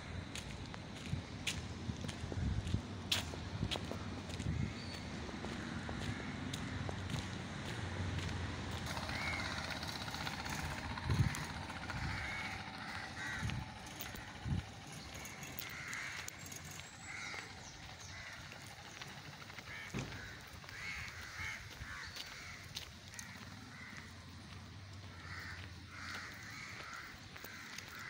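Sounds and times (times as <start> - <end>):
crows cawing: 3.8 - 28.0.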